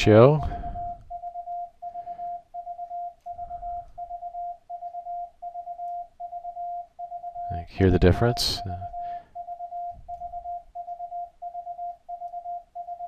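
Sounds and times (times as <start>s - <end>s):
morse code tone: 0.4s - 13.0s.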